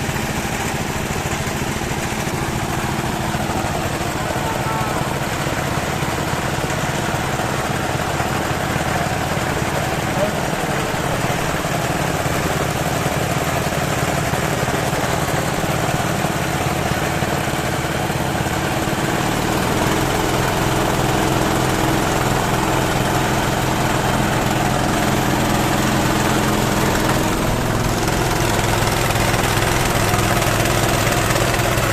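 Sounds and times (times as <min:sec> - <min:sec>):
small pump engine running: 0:00.0 - 0:31.9.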